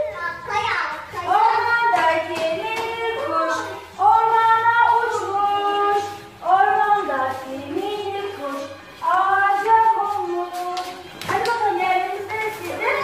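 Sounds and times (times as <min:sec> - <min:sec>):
woman and children singing: 0:01.1 - 0:13.0.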